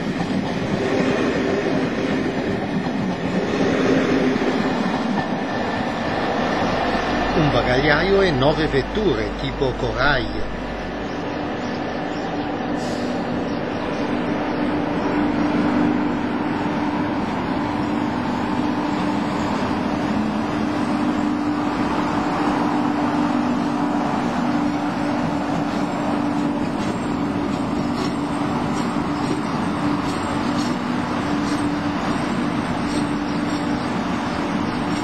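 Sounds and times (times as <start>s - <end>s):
locomotive engine droning: 4.0s - 35.0s.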